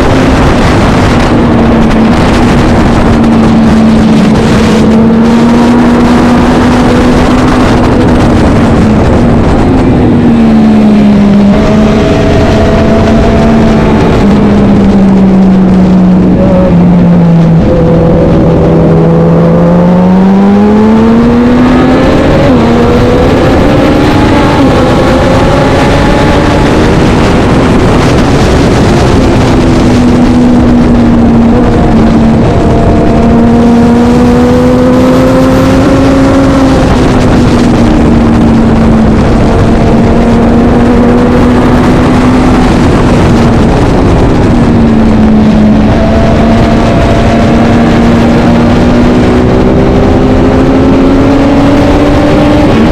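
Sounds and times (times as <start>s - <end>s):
motorcycle engine revving high: 0.0s - 52.9s
steady rush of noise: 0.0s - 52.9s.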